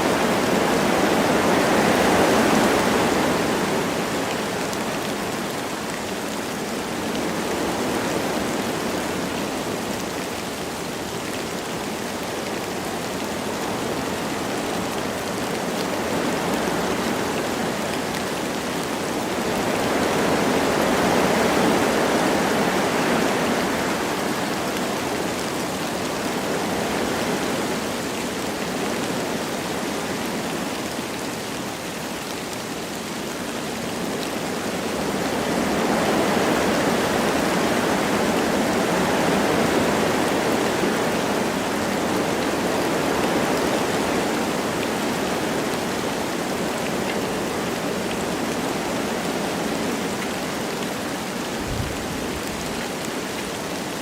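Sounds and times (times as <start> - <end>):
light rain falling: 0.0 - 54.0
wind rushing through trees: 0.0 - 54.0.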